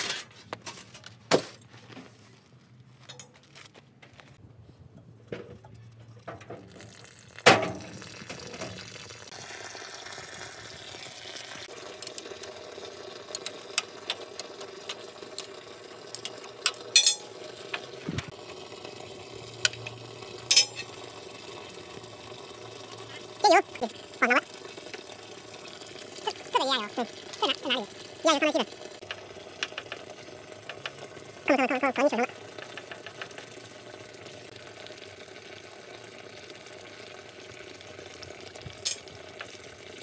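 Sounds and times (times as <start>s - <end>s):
small clicks and drips: 5.6s - 40.0s.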